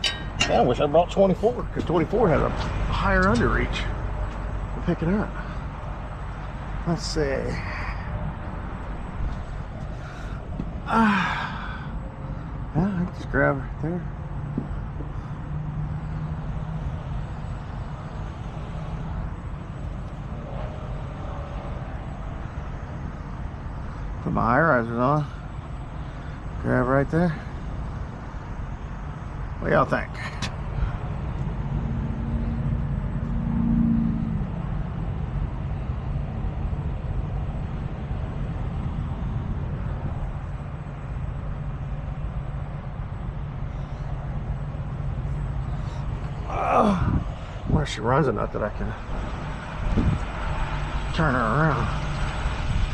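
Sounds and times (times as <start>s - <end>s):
diesel truck engine running: 0.0s - 52.9s
faint high whine: 0.0s - 52.9s.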